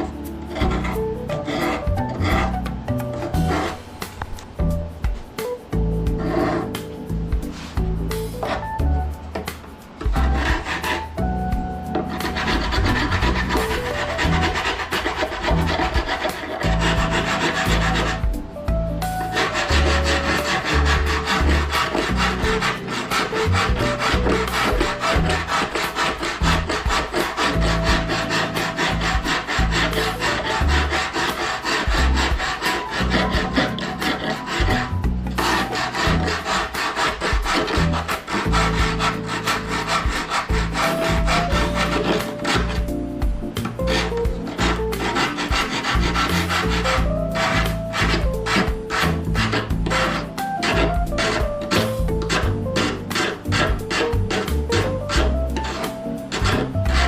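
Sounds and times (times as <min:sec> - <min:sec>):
hand rasp filing: 0:00.0 - 0:03.9, 0:06.0 - 0:09.2, 0:10.0 - 0:57.0.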